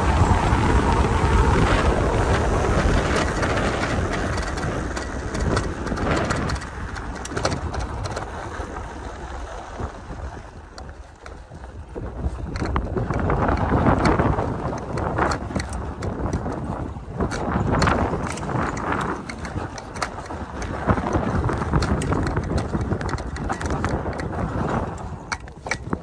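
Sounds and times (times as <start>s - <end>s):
tyres rumbling on gravel: 0.0s - 26.0s
wind buffeting microphone: 0.0s - 26.0s
clicks and rattles over bumps: 1.6s - 9.0s, 10.7s - 26.0s.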